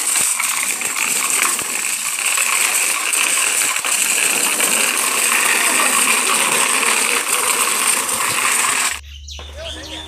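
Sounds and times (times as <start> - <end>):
bicycle rolling over rough concrete: 0.0 - 9.0
metal parts rattling: 0.0 - 9.0.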